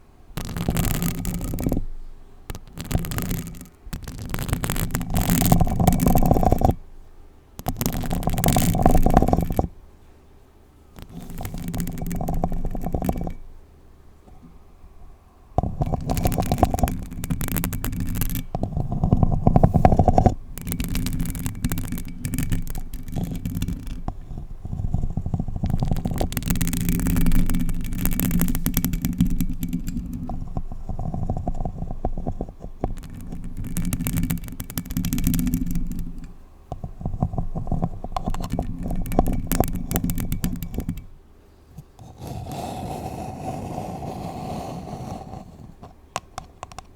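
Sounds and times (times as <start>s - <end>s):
nails scratching paper cup: 0.4s - 6.8s, 7.6s - 9.8s, 11.0s - 13.5s, 15.6s - 41.2s, 41.8s - 46.9s.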